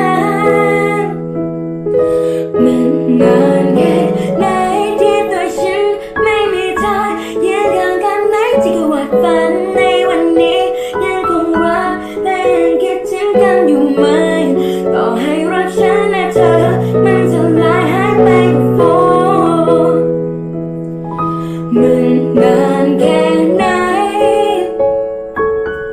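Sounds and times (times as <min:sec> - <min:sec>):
girl singing pop ballad: 0:00.0 - 0:01.4, 0:02.0 - 0:20.3, 0:21.4 - 0:24.8
piano accompaniment: 0:00.0 - 0:25.9.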